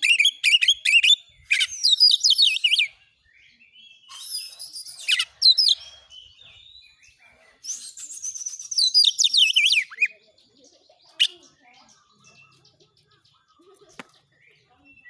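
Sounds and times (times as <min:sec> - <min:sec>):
bird singing warbles and whistles: 0:00.0 - 0:15.0.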